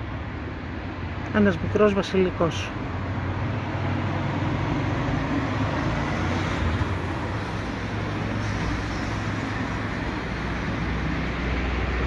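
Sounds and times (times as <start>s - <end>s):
street noise rumble and hiss: 0.0s - 12.0s.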